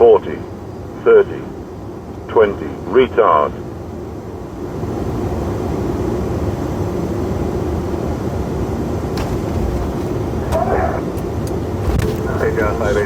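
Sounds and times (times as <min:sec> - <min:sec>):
aircraft cockpit rumble: 0:00.0 - 0:13.0.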